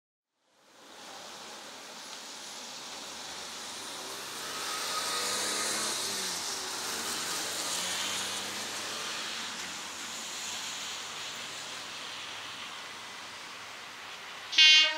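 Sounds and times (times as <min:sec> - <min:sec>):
steady hiss: 0:00.5 - 0:14.6.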